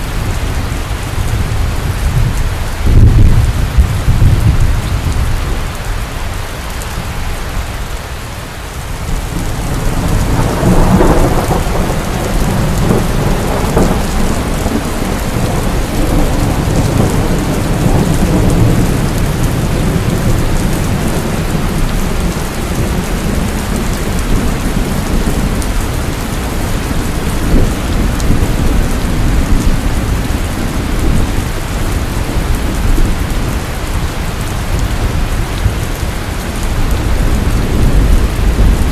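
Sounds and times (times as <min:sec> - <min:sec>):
thunder rumbling: 0:00.0 - 0:06.0, 0:08.9 - 0:38.9
heavy rain falling: 0:00.0 - 0:38.9.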